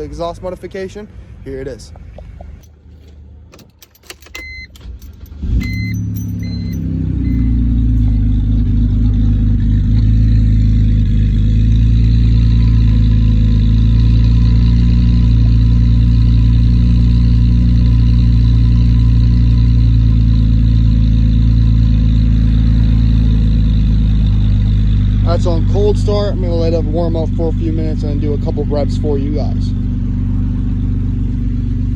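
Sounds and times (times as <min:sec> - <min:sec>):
car engine idling deep drone: 0:00.0 - 0:31.9.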